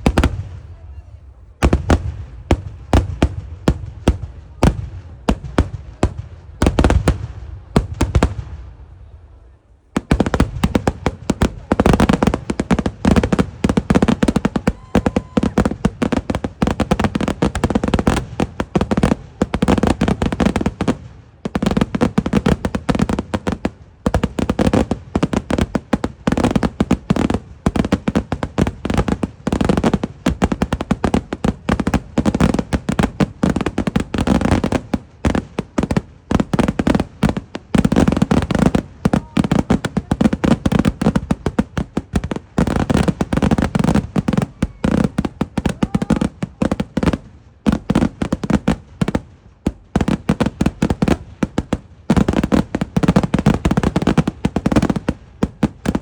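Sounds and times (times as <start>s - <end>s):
fireworks explosions: 0.0s - 56.0s.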